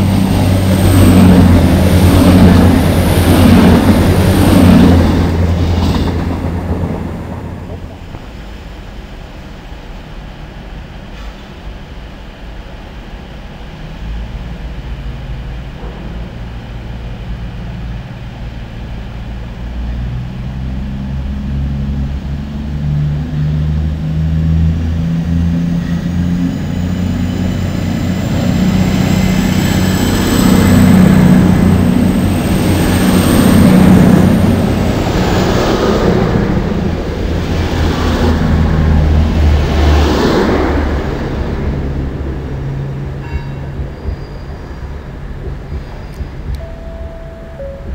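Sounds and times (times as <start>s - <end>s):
train diesel engines humming: 0.0s - 47.9s.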